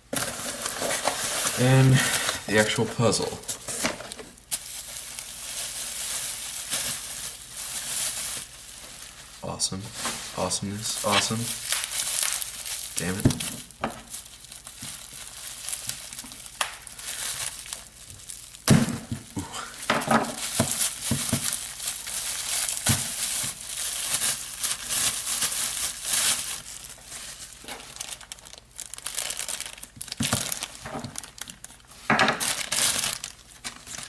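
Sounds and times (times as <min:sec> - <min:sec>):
packaging crinkling and rustling: 0:00.1 - 0:34.0.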